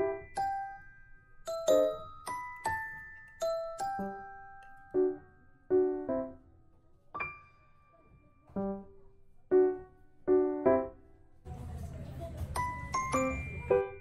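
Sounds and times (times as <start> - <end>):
slow piano tune: 0.0 - 14.0.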